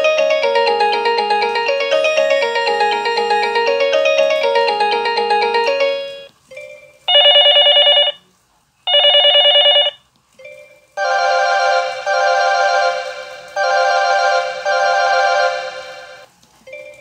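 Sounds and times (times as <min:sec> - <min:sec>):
melodic ringtone: 0:00.0 - 0:08.2, 0:08.9 - 0:17.0
trilling telephone bell ring: 0:01.6 - 0:08.2, 0:08.9 - 0:17.0.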